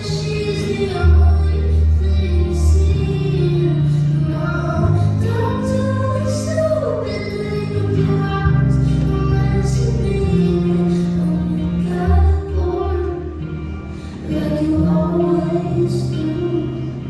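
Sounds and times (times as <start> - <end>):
long held bass notes: 0.0 - 17.0
woman singing: 0.0 - 17.0.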